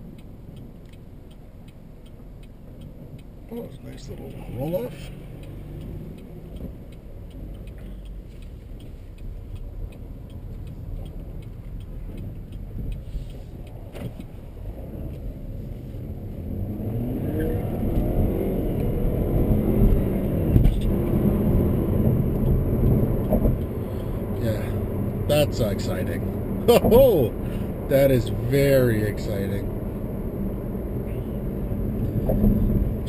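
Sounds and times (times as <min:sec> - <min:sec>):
car engine accelerating: 0:00.0 - 0:33.0
road rumble: 0:00.0 - 0:33.0.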